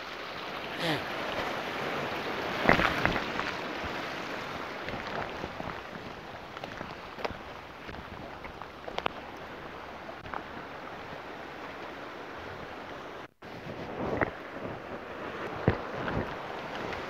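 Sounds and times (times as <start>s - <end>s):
ocean surf over rocks: 0.0s - 17.0s.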